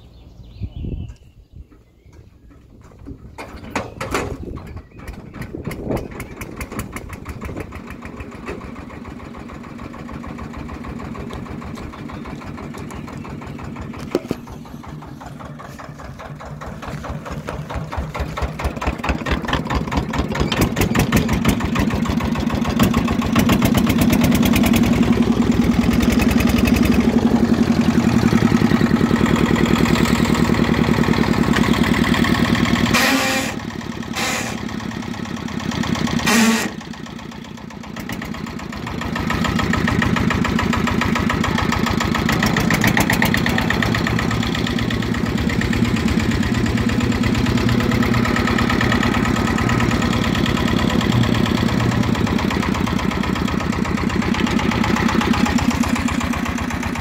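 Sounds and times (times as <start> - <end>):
diesel engine starting and running: 0.0 - 57.0.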